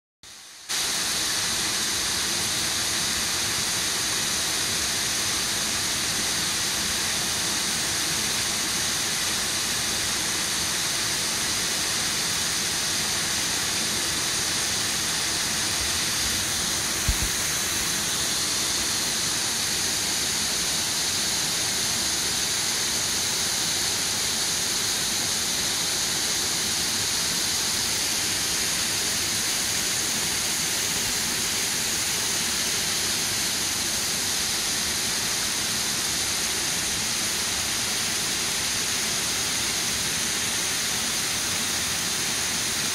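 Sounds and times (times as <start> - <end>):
water rushing over weir: 0.8 - 42.9.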